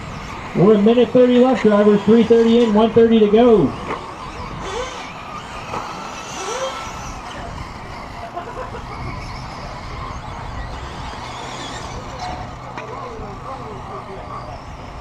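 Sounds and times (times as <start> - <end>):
faint electric motor whines: 0.0 - 15.0
rc trucks tyre and chassis noise: 0.0 - 15.0.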